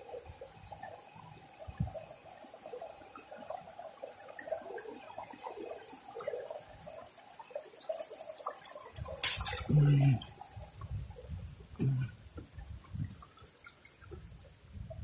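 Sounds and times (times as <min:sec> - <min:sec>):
creek water babbling over rocks: 0:00.0 - 0:15.0.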